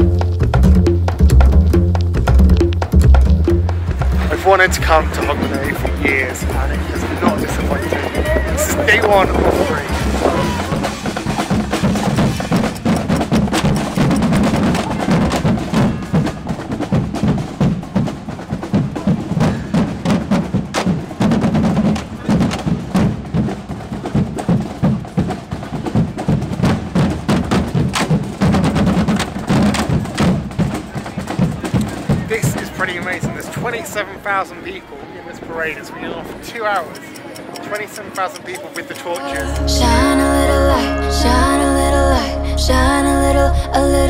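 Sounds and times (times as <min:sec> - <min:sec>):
drum and percussion music: 0:00.0 - 0:34.8, 0:35.6 - 0:41.1.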